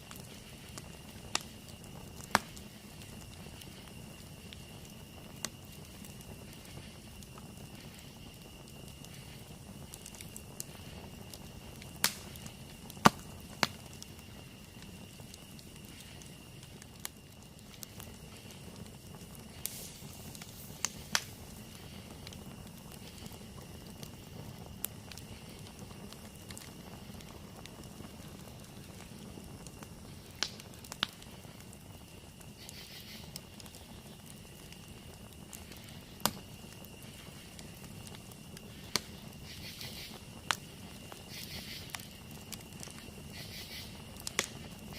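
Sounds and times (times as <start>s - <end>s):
campfire burning: 0.0s - 44.9s
fire pops and crackles: 0.0s - 44.9s.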